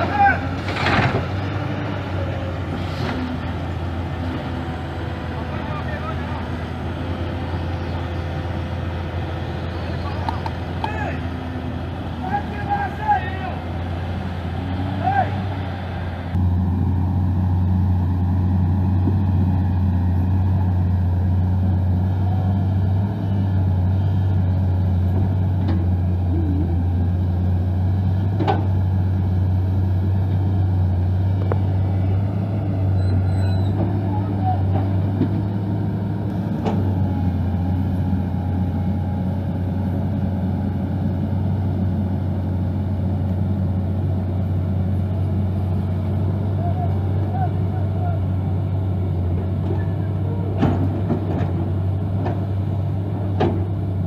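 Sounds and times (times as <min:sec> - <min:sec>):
heavy engine droning: 0:00.0 - 0:54.0.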